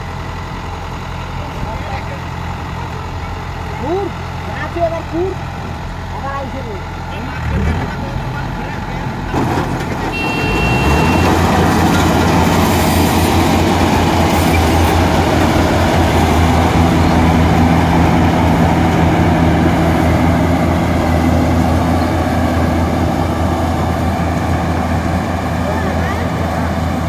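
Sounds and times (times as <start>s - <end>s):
combine harvester droning: 0.0s - 27.0s.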